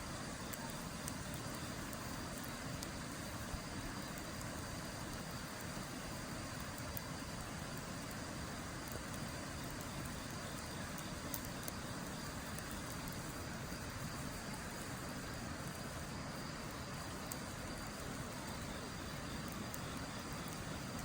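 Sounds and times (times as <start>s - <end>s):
steady rushing fire: 0.0s - 21.0s
wood fire crackling: 0.0s - 21.0s.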